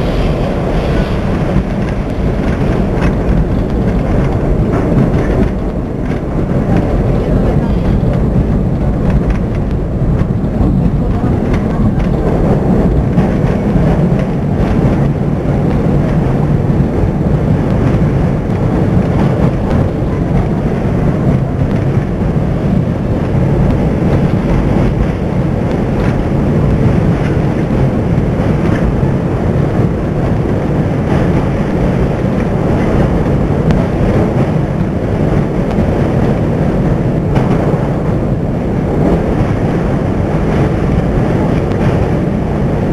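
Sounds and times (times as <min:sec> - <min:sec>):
subway train wheels rumbling on rails: 0:00.0 - 0:42.9.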